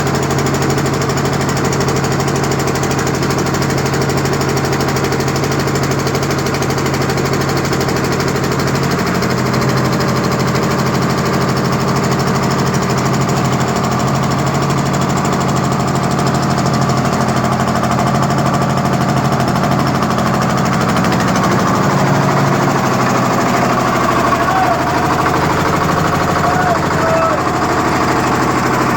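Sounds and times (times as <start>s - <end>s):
construction machine engine knocking: 0.0s - 28.9s.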